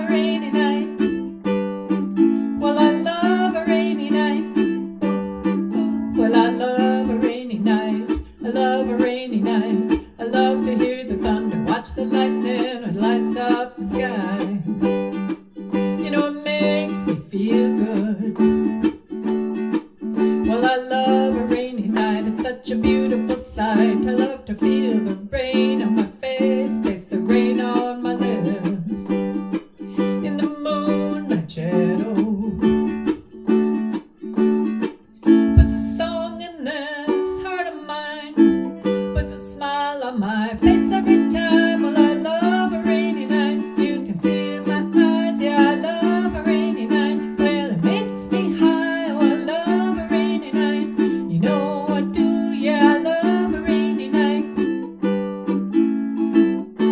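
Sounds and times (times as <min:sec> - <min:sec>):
person singing: 0:00.0 - 0:33.4, 0:35.2 - 0:55.7
ukulele strummed: 0:00.0 - 0:56.9.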